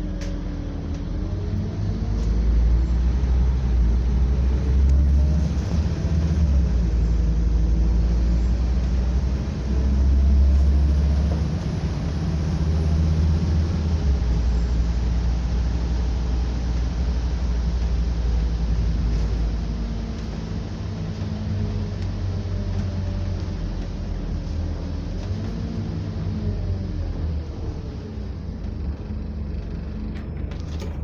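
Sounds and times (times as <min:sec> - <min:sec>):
bus engine drone: 0:00.0 - 0:31.0.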